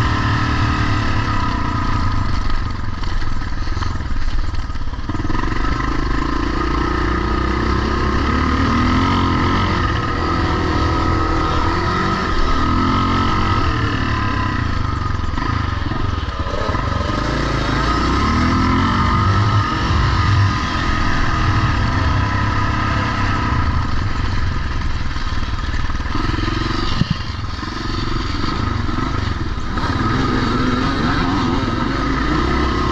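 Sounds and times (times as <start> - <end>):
motocross motorcycles revving: 0.0 - 32.9.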